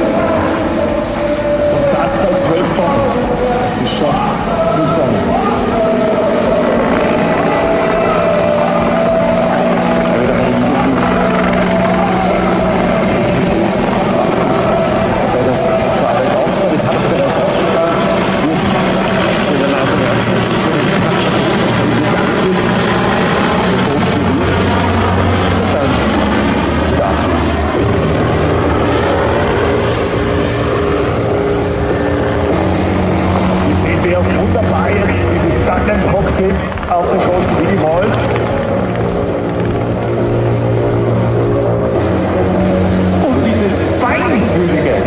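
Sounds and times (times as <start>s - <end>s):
helicopter flying past: 0.0s - 45.0s.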